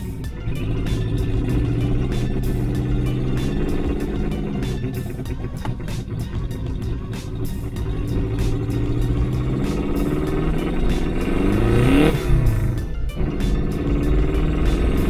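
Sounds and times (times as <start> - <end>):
car engine heard from cabin: 0.0 - 15.0.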